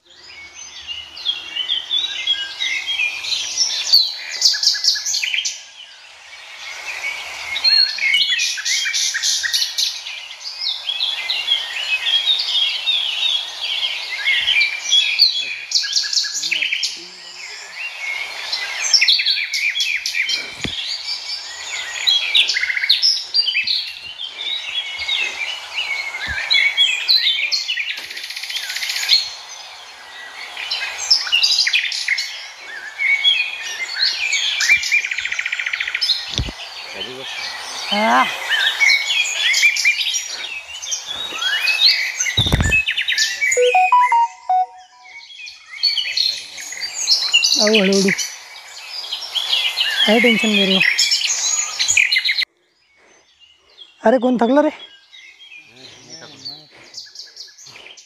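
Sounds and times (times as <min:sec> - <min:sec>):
forest birds chirping: 0:00.0 - 0:58.0.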